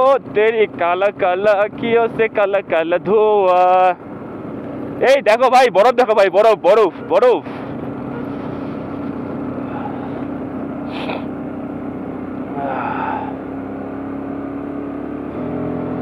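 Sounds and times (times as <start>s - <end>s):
motorcycle engine cruising: 0.0s - 16.0s
road noise: 0.0s - 16.0s.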